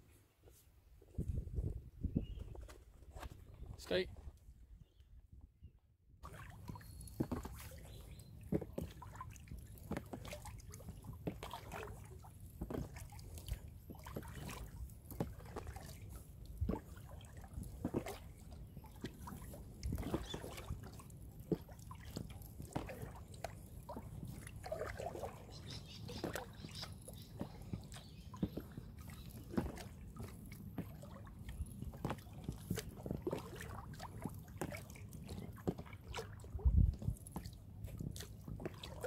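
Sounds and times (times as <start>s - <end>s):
paddle splashing water: 6.2s - 39.0s
water trickling off paddle: 6.2s - 39.0s.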